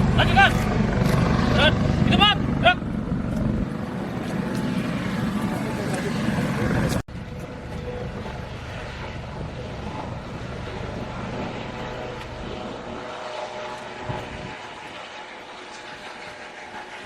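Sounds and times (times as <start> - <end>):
aircraft engine droning: 0.0 - 17.0.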